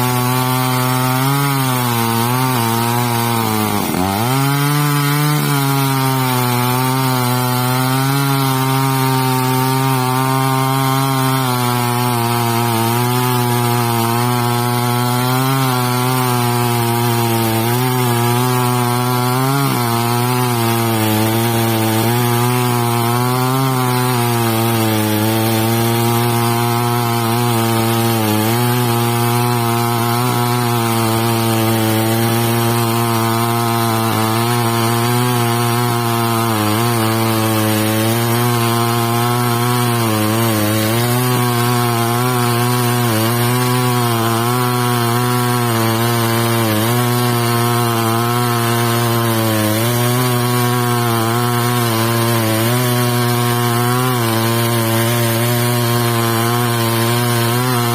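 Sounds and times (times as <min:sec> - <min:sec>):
chainsaw cutting log: 0:00.0 - 0:57.9.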